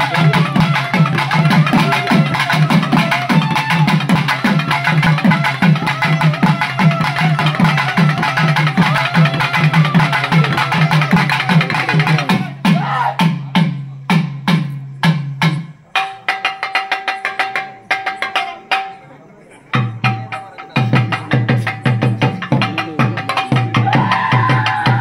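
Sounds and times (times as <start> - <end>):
busy percussion: 0.0 - 25.0.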